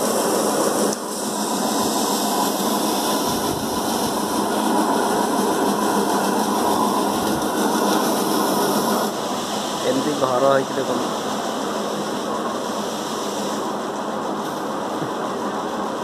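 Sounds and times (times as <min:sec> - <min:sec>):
thresher drum running: 0:00.0 - 0:16.0.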